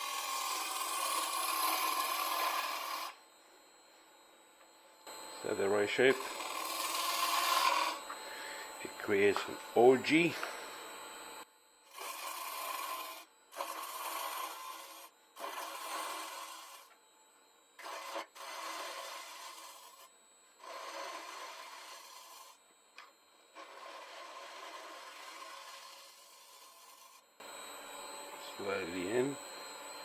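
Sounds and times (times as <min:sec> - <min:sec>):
lathe tool cutting wood: 0:00.0 - 0:03.2, 0:05.1 - 0:11.2, 0:11.9 - 0:16.9, 0:17.8 - 0:22.6, 0:23.5 - 0:30.0.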